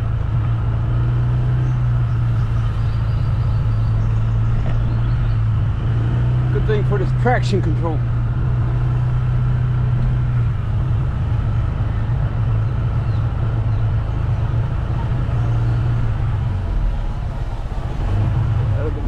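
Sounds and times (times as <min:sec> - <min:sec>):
road noise: 0:00.0 - 0:19.0
vehicle engine humming: 0:00.0 - 0:19.0.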